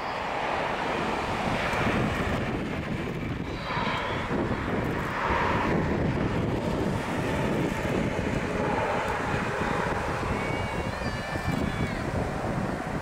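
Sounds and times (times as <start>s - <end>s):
jet engines running: 0.0s - 13.0s
wind noise on microphone: 0.0s - 13.0s.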